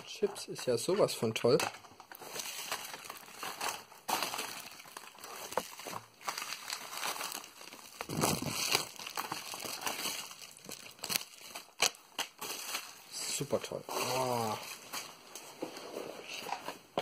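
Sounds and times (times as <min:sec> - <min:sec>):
bubble wrap and plastic crinkling: 0:00.0 - 0:17.0.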